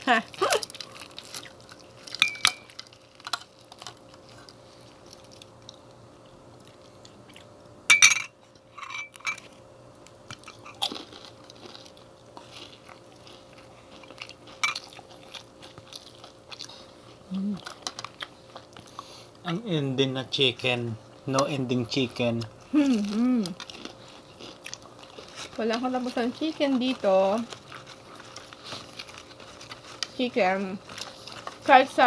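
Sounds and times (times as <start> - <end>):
chewing crispy chicken: 0.0 - 7.6, 9.4 - 19.6, 20.4 - 32.0.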